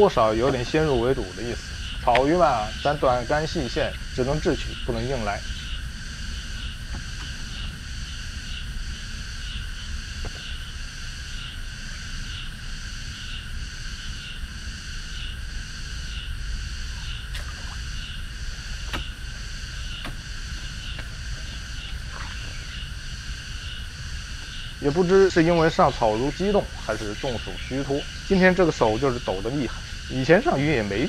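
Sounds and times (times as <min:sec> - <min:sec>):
cicada chorus droning: 0:00.0 - 0:31.0
steady low rumble: 0:00.0 - 0:31.0.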